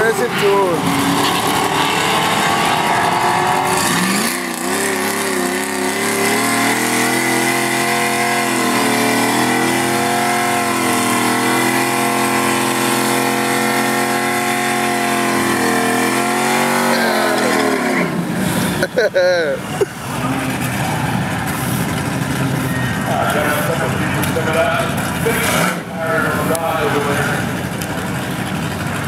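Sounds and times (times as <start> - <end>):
truck engine revving at high rpm: 0.0 - 29.0
tyres spinning in burnout: 0.0 - 29.0.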